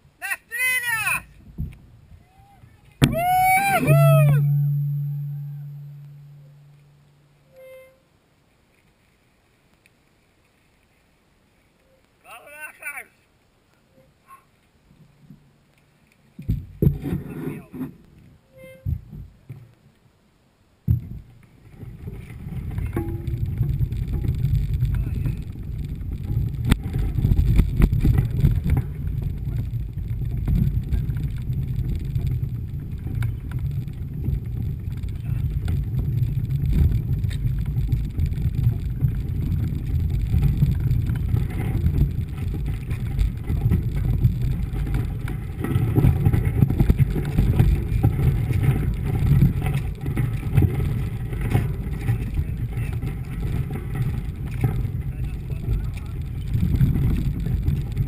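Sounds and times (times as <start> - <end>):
bike tyres rumbling on gravel: 1.3 - 7.9, 16.3 - 19.5, 20.8 - 58.0.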